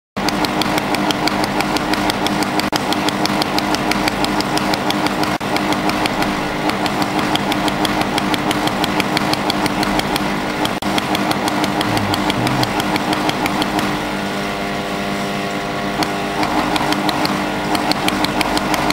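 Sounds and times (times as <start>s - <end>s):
machine continuous hum: 0.2s - 18.9s.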